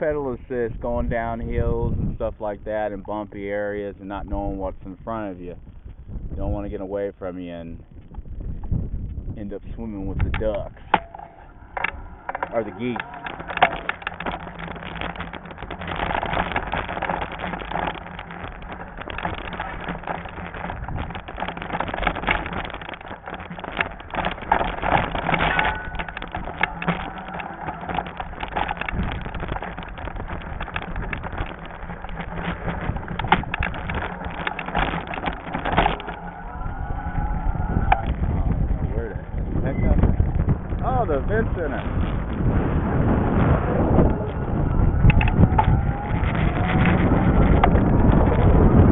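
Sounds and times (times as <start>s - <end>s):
bike rattling over bumps: 0.0s - 48.9s
low hum: 0.0s - 48.9s
wind buffeting microphone: 0.0s - 48.9s.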